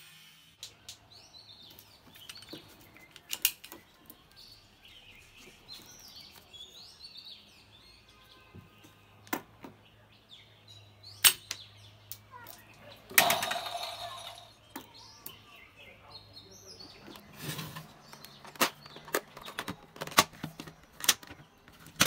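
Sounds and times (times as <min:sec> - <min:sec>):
birds chirping faintly: 0:00.6 - 0:22.0.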